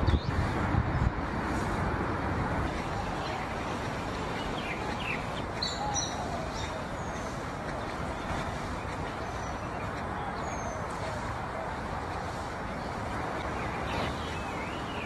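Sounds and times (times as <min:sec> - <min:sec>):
small birds chirping: 0:00.0 - 0:15.0
steady background noise: 0:00.0 - 0:15.0.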